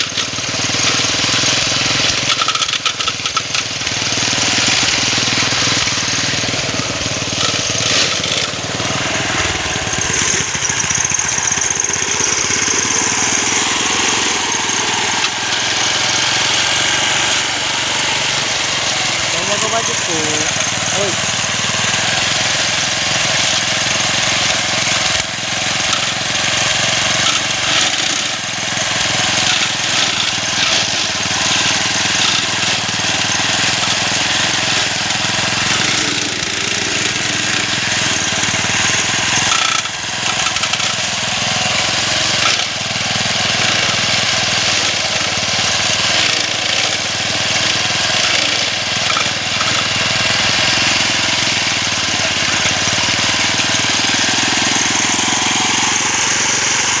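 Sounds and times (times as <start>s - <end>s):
small engine cutting grass: 0.0s - 57.0s.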